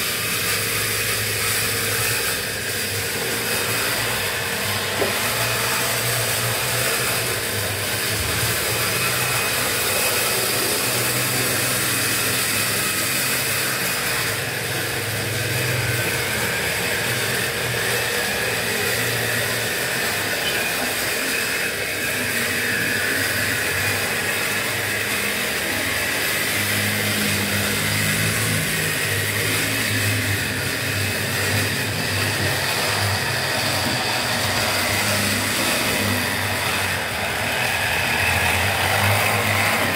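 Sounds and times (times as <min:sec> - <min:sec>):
model locomotive engine drone: 0:00.0 - 0:39.9.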